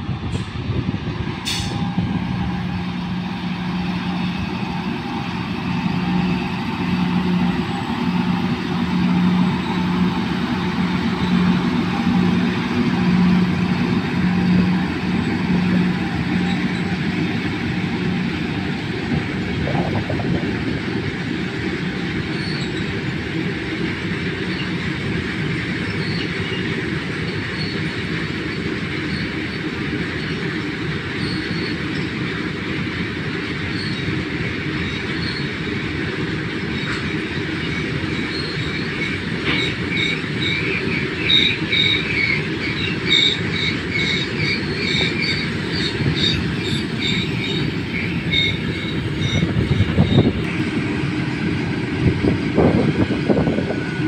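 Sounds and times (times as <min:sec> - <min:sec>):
electric locomotives humming: 0:00.0 - 0:54.0
freight wagons rumbling on rails: 0:00.0 - 0:54.0.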